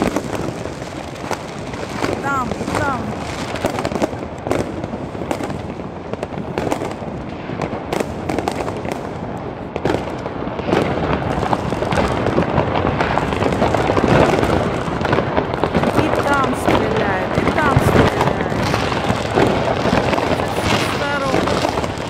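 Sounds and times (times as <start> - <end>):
fireworks and firecrackers crackling: 0.0 - 22.0.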